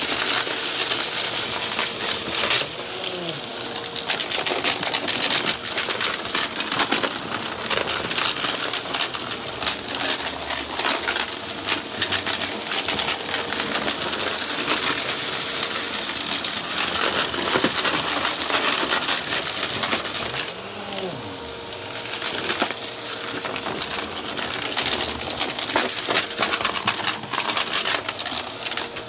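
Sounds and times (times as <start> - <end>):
vacuum cleaner on carpet: 0.0 - 29.0.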